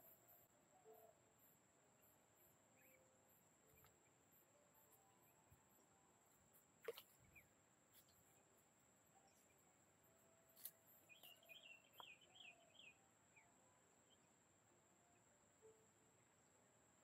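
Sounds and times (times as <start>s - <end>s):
bird chirping: 0.0s - 17.0s
faint high-pitched whine: 0.0s - 17.0s.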